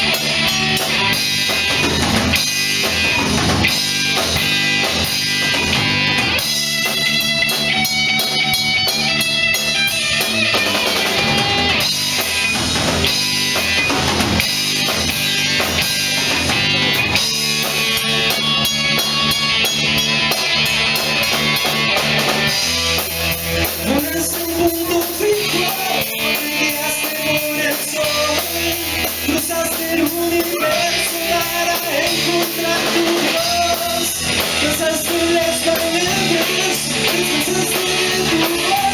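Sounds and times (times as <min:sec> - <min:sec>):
drum kit: 0:00.0 - 0:38.9
electric guitar: 0:00.0 - 0:38.9
held lead melody: 0:00.0 - 0:38.9.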